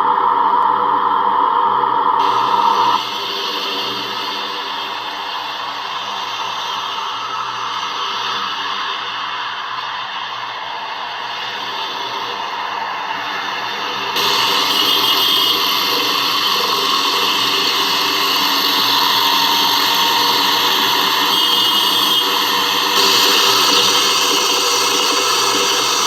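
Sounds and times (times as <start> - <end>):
loud steady mechanical noise: 0.0 - 26.0.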